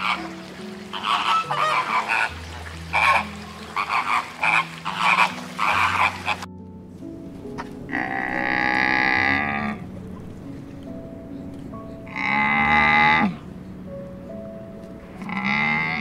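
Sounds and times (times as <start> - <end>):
flamingos honking and croaking: 0.0 - 6.5, 7.5 - 13.8, 14.8 - 16.0
background music low notes: 0.0 - 16.0.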